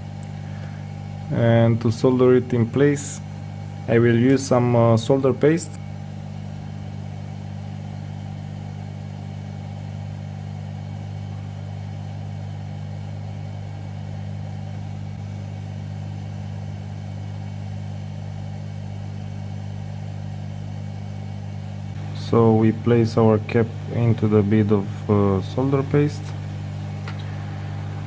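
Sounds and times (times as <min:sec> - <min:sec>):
electric blower humming: 0:00.0 - 0:28.0.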